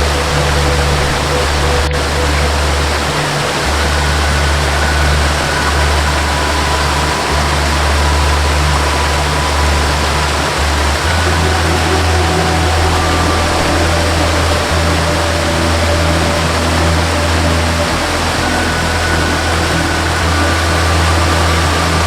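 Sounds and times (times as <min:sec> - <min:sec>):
slow melody with low bass: 0:00.0 - 0:22.0
waterfall rushing: 0:00.0 - 0:22.0.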